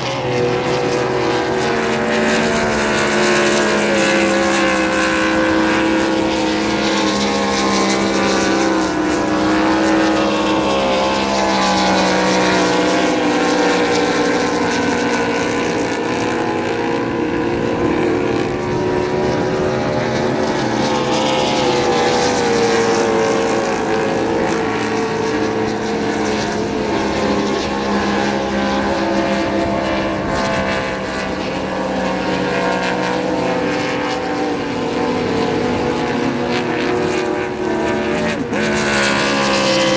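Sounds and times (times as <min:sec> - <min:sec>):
race boat engines drone: 0:00.0 - 0:39.9.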